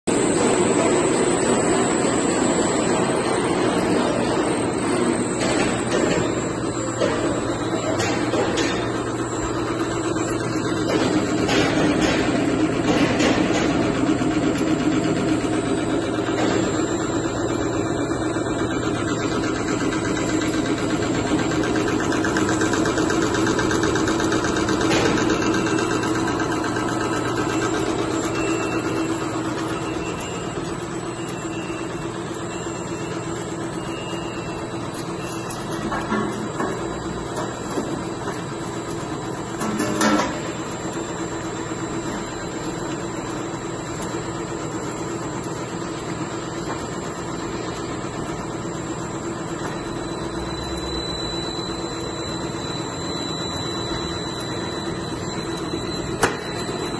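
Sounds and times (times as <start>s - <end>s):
machine motor hum: 0.1s - 56.9s.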